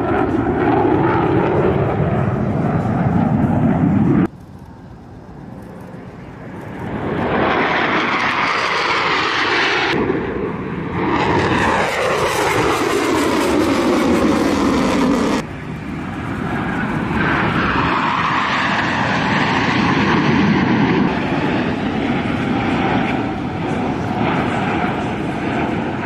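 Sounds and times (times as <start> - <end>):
jet engines flying overhead: 0.0 - 26.0.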